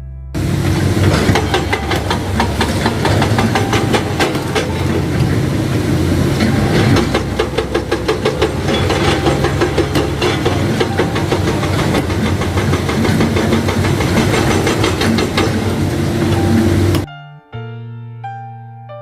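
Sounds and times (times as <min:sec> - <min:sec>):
hydraulic breaker hammering rock: 0:00.4 - 0:17.0
diesel engine running: 0:00.4 - 0:17.1.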